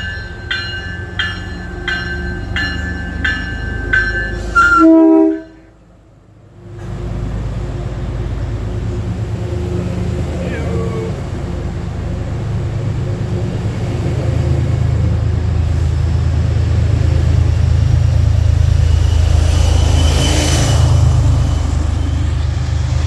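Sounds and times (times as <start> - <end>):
diesel locomotive rumble: 0.0 - 23.0
train wheel and rail noise: 0.0 - 23.0.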